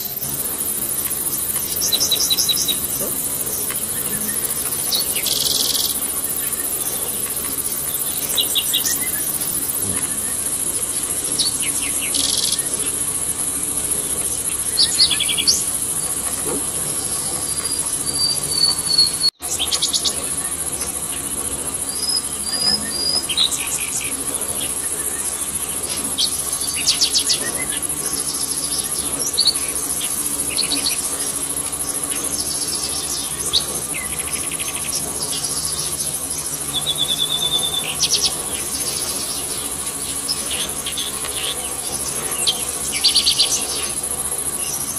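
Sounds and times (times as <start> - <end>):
birds chirping and trilling: 0.0 - 44.9
high-pitched insect drone: 0.0 - 44.9.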